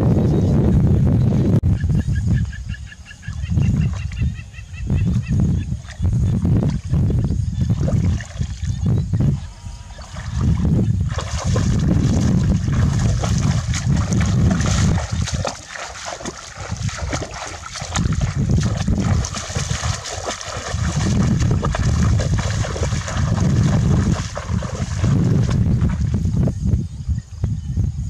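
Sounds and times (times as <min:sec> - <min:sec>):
wind gusting on microphone: 0:00.0 - 0:28.0
legs wading through shallow water: 0:03.1 - 0:07.0, 0:07.6 - 0:26.3.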